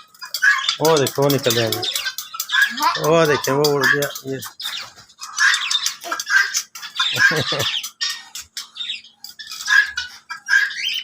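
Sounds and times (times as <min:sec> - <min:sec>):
birds chattering and squawking: 0:00.0 - 0:11.0.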